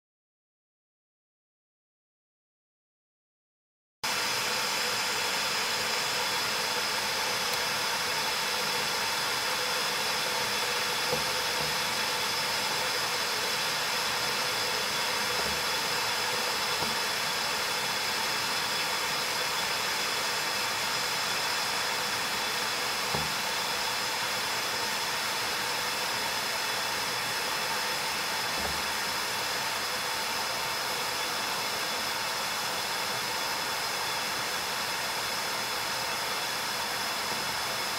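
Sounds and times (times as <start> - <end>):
kettle whistling: 4.1 - 37.9
steam hissing: 4.1 - 37.9.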